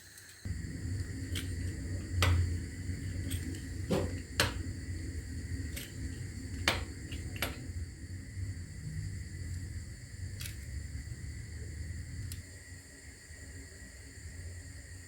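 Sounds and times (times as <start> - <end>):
low steady hum: 0.5 - 15.0.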